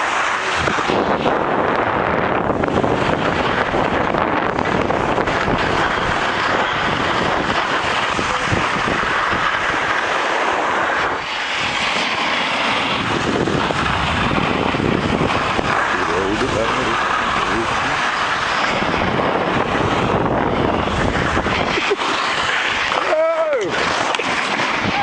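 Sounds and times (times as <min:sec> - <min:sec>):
skis scraping snow: 0:00.0 - 0:25.0
wind on microphone: 0:00.0 - 0:25.0.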